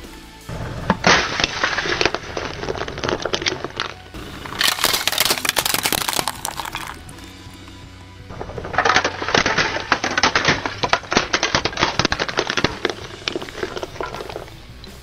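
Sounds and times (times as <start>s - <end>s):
tyre crushing bowl of kibble: 0.7s - 15.0s.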